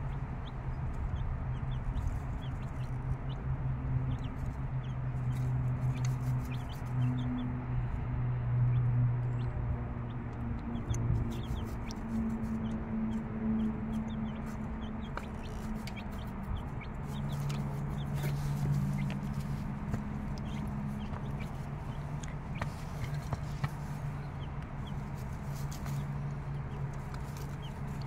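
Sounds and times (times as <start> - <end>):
pecking and scratching in shavings: 0.0 - 7.6, 9.7 - 28.0
chicks peeping: 0.0 - 7.9, 8.6 - 28.0.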